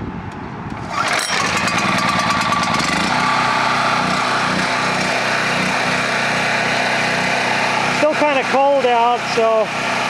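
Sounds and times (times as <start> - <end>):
small gasoline engine running: 0.8 - 10.0.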